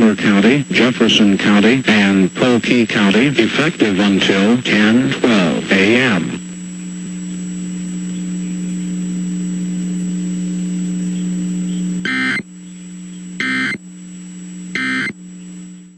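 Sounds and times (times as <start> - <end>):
low electrical hum: 0.0 - 15.9.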